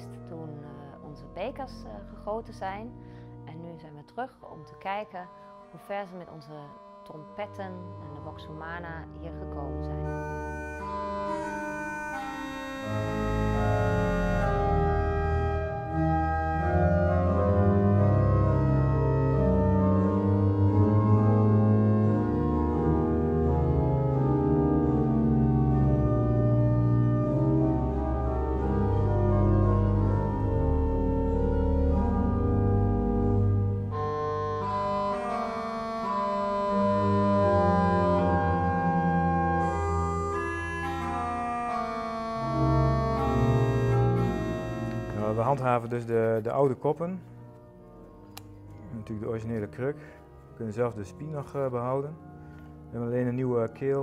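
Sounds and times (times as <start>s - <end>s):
pipe organ chords: 0.0s - 54.0s.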